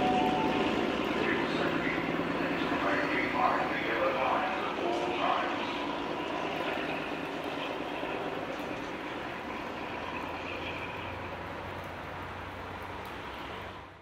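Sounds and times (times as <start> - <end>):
train diesel engine drone: 0.0 - 14.0.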